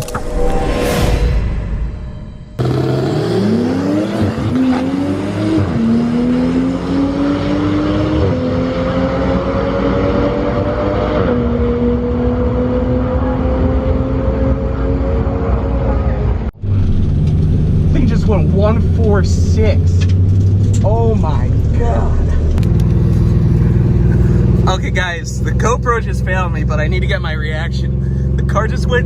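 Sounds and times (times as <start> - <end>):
car engine at full throttle: 2.5 - 29.0.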